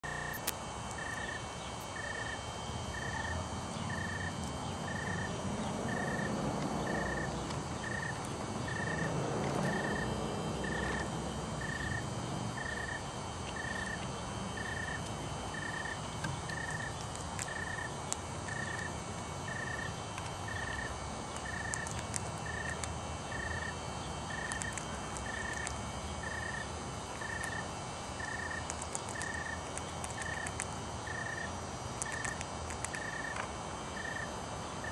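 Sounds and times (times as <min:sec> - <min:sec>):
outdoor background noise: 0:00.0 - 0:34.9.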